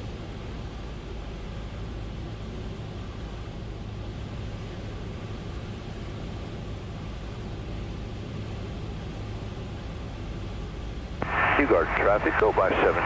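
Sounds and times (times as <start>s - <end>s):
airplane engine and propeller drone: 0.0s - 13.0s.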